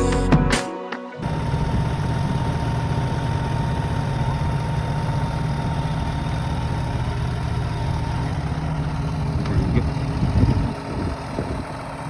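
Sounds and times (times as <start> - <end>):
farm machinery engine drone: 1.2 - 12.0.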